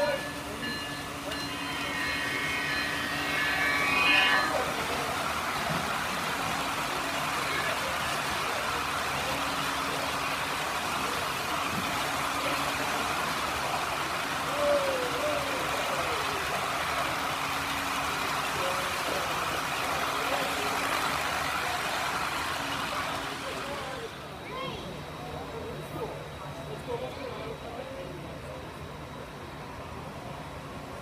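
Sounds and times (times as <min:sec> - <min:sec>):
busy exhibition hall noise: 0:00.0 - 0:31.0
model train rumbling past: 0:00.0 - 0:31.0.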